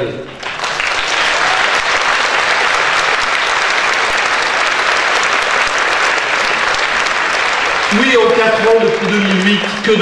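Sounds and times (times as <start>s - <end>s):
large audience applauding: 0.3s - 10.0s.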